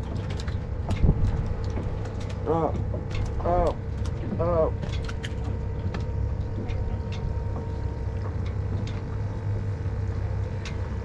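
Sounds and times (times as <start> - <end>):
faint steady hum: 0.0 - 11.0
water around a boat: 0.0 - 11.0
wind rumble: 0.0 - 11.0.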